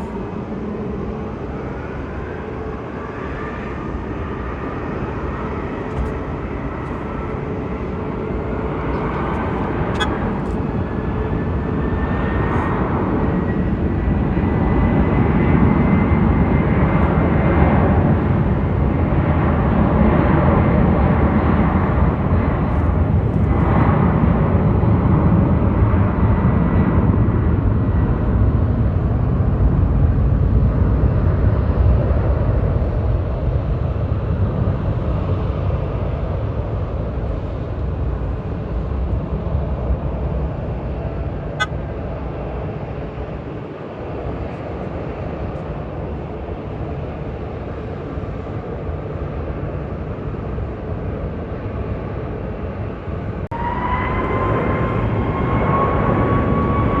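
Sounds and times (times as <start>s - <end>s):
jet airliner engines: 0.0s - 57.0s.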